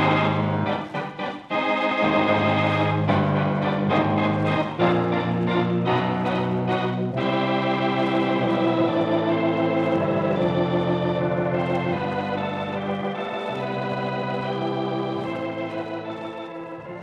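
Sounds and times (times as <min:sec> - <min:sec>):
organ music with held chords: 0:00.0 - 0:17.0.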